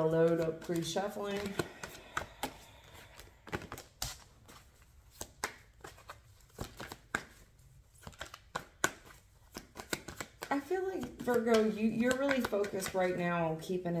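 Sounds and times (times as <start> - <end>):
cards being shuffled: 0.0 - 13.2.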